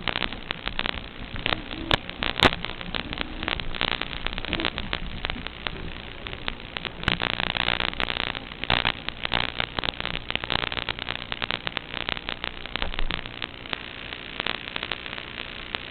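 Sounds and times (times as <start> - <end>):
faint low hum: 0.0 - 15.9
radio static crackling and hiss: 0.0 - 15.9.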